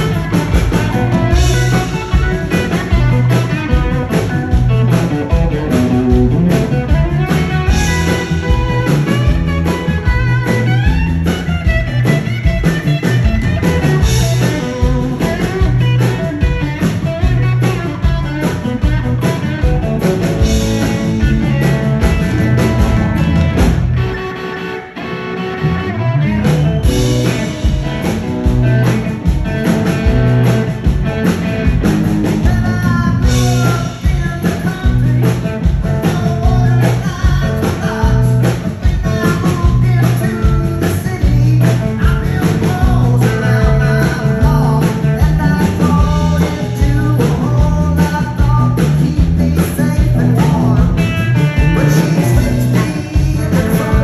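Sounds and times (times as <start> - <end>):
bass guitar: 0.0 - 54.0
drums: 0.0 - 54.0
electric guitar: 0.0 - 54.0.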